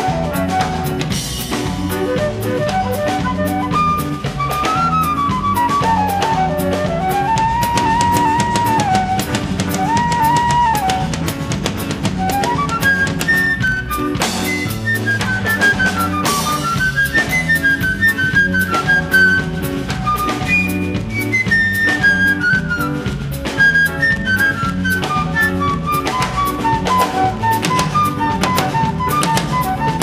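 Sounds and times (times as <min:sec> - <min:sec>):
drum-kit groove: 0:00.0 - 0:30.0
electric bass line: 0:00.0 - 0:30.0
flute melody: 0:00.0 - 0:30.0.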